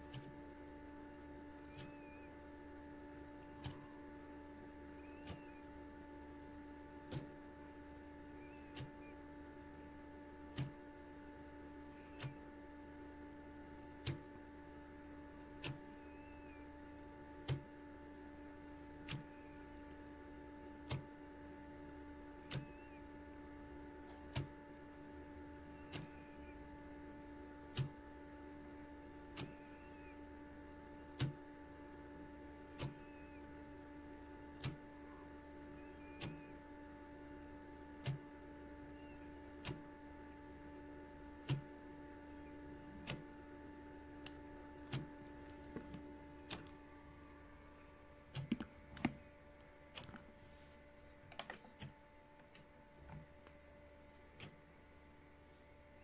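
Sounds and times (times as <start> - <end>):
washing machine motor hum: 0.0 - 56.0.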